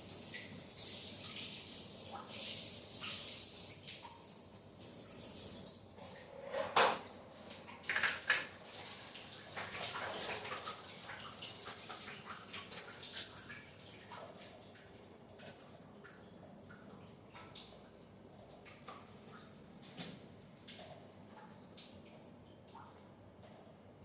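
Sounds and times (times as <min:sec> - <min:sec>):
water running: 0:00.0 - 0:23.6.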